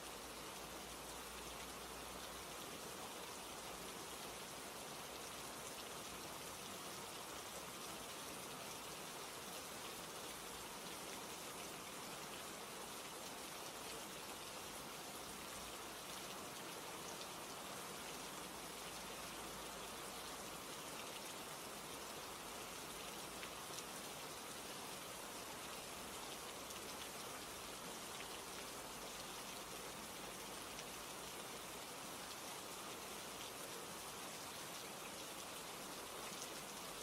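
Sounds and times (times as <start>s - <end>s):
soft rain: 0.0s - 37.0s.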